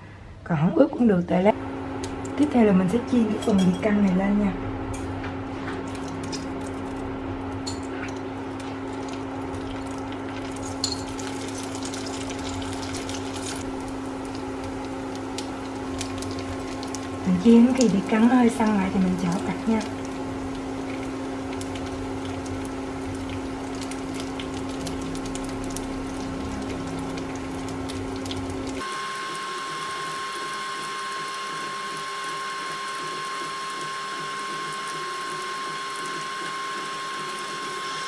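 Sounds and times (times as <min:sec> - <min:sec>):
steady hum: 0:00.0 - 0:38.0
food sizzling in hot oil: 0:05.9 - 0:38.0.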